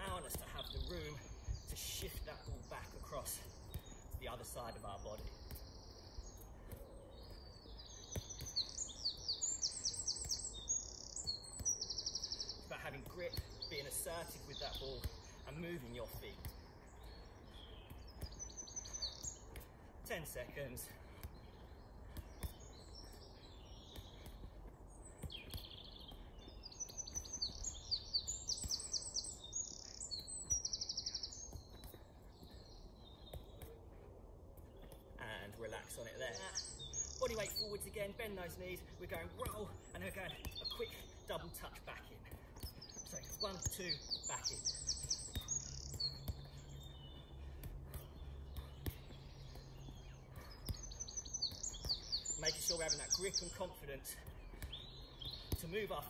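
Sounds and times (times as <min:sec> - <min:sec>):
soft taps of football: 0:00.0 - 0:56.0
songbirds singing: 0:00.0 - 0:56.0
faint bird chirps: 0:02.5 - 0:56.0.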